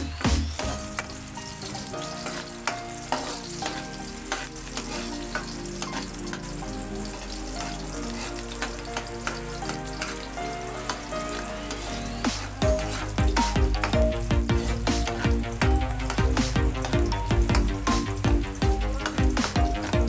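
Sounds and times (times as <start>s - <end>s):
onion sizzling in hot oil: 0.0s - 20.0s
metal ladle scraping pan: 0.5s - 18.2s.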